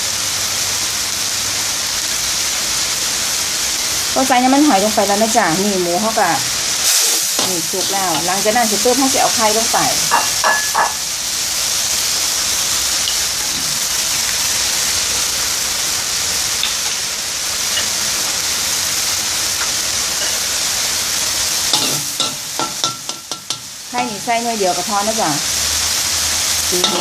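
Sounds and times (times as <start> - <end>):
meat sizzling in a wok: 0.0 - 27.0.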